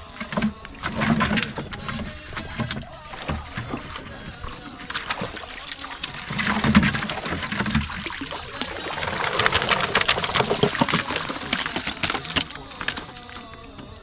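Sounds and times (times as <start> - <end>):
seawater splashing and trickling: 0.0 - 14.0
small clicks and rustles: 0.0 - 14.0.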